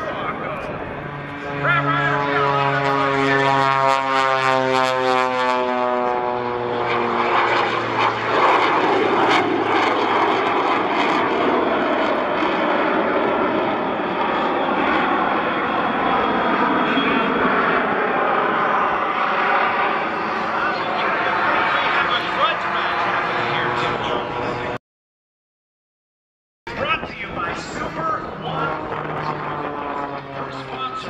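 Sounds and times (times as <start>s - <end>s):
broad rushing roar: 0.0s - 24.8s, 26.7s - 31.0s
propeller airplane engine drone: 0.0s - 24.8s, 26.7s - 31.0s.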